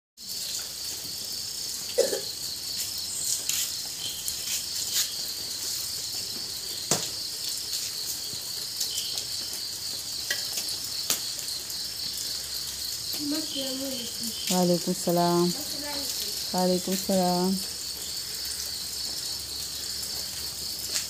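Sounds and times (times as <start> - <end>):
crickets chirring: 0.2 - 21.0.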